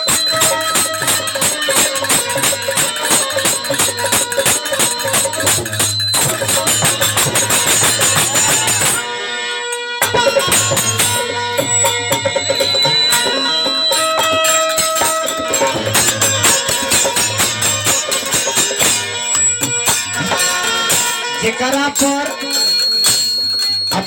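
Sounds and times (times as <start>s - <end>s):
fast hand drum strokes: 0.0s - 9.0s, 10.0s - 24.0s
held melody line: 0.0s - 24.0s
jingling percussion: 0.0s - 24.0s.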